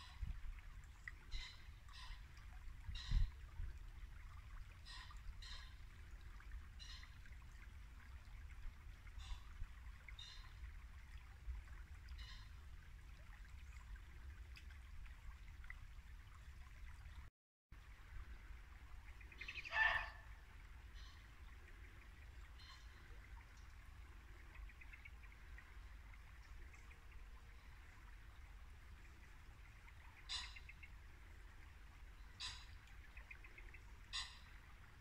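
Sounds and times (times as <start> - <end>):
brook babbling: 0.0 - 35.0.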